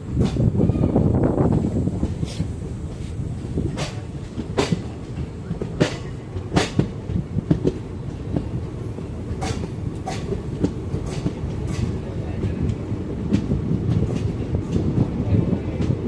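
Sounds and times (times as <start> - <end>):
freight train rumbling: 0.0 - 16.0
wheels clacking over rail joints: 1.4 - 16.0.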